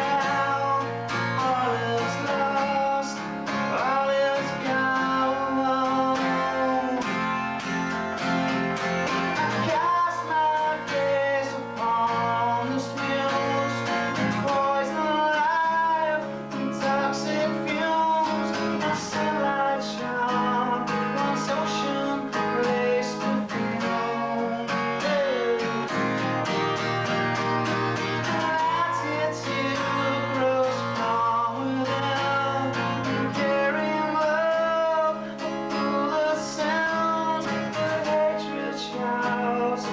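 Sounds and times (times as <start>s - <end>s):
guitar-led live song: 0.0s - 39.9s.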